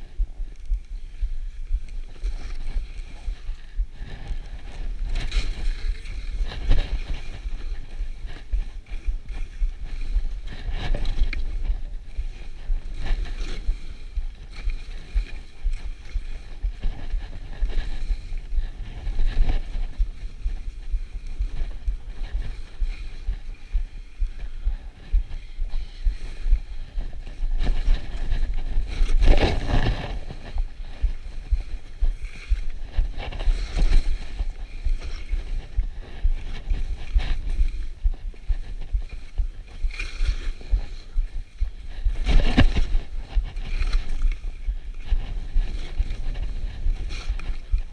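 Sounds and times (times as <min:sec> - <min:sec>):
wind buffeting microphone: 0:00.0 - 0:47.9
skis scraping on snow: 0:00.1 - 0:47.9.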